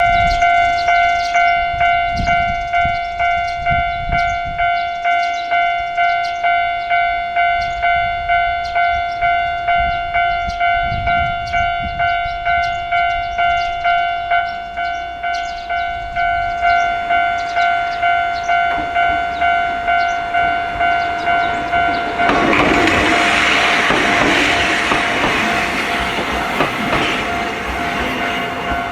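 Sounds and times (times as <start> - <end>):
railway crossing bell ringing: 0.0 - 28.9.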